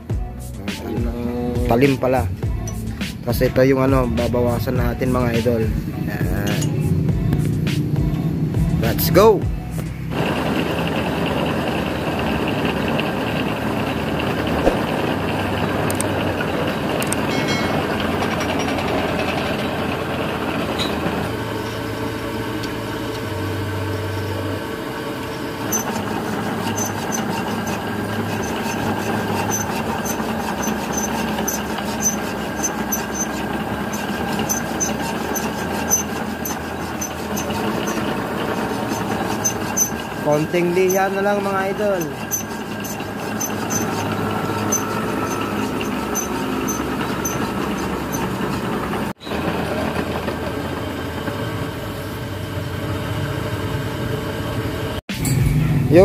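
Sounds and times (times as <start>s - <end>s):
metal lathe running: 1.2s - 6.9s, 10.1s - 55.0s.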